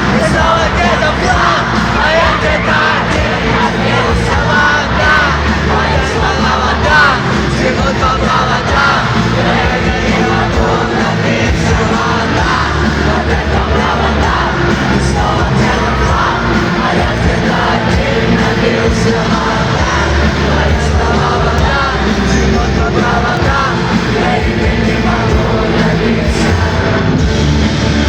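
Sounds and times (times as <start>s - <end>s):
lead vocals singing and shouting: 0.0s - 28.0s
rock band playing loudly: 0.0s - 28.0s.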